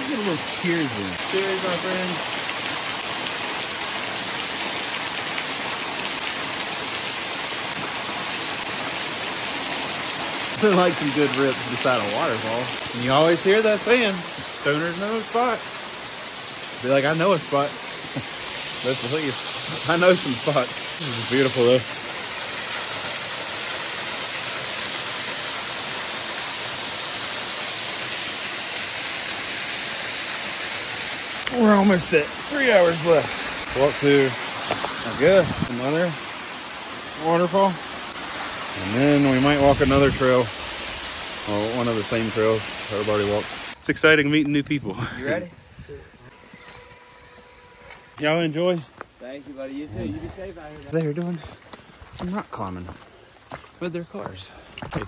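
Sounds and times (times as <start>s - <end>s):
waterfall splashing onto rocks: 0.0s - 44.6s, 49.2s - 55.0s.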